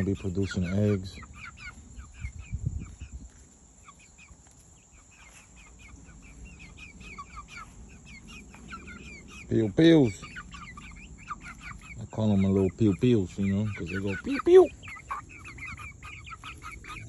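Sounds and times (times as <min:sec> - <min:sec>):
young chickens peeping: 0:00.0 - 0:17.0.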